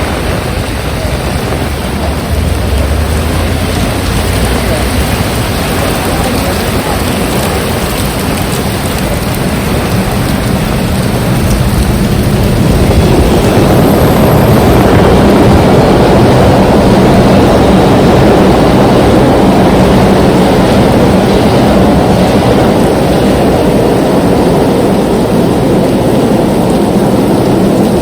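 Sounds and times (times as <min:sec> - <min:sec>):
heavy rain: 0:00.0 - 0:28.0
strong wind: 0:00.0 - 0:28.0.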